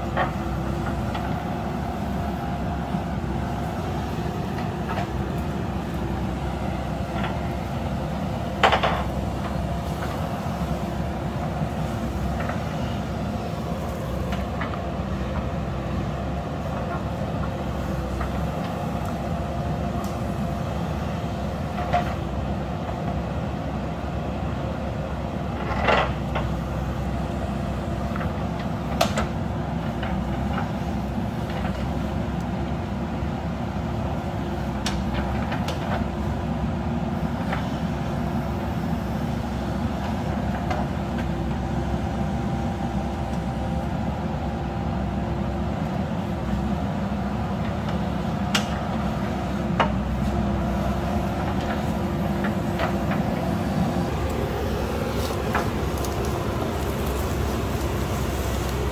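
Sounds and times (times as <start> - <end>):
diesel engine running under load: 0.0 - 58.9.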